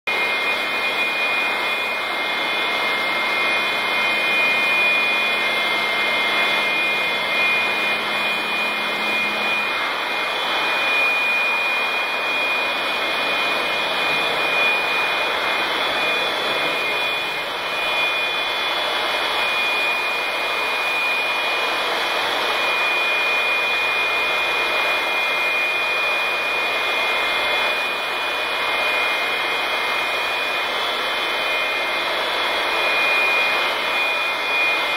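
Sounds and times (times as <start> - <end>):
electric air blower running: 0.1 - 34.9.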